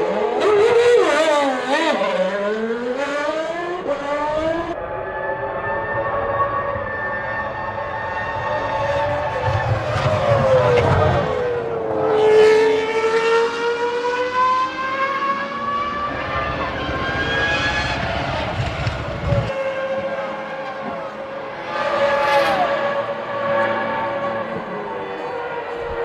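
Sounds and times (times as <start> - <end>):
racing car engine accelerating: 0.0 - 26.0
racing car passing by: 0.0 - 26.0.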